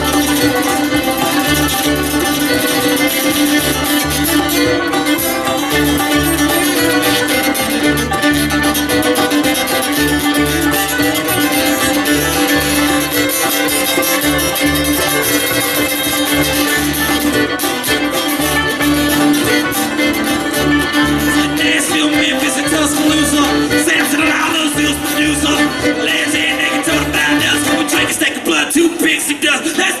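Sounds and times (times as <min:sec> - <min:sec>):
upright bass line: 0:00.0 - 0:28.4
strummed acoustic guitar: 0:00.0 - 0:29.2
fiddle: 0:00.0 - 0:30.0.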